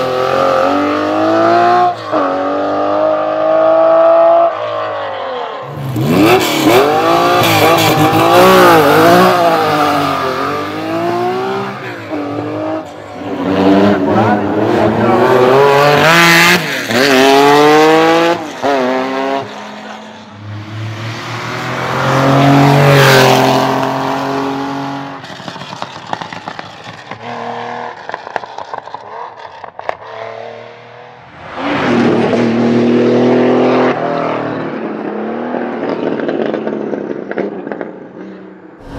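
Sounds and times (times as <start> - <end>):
rally car engines accelerating: 0.0 - 38.2.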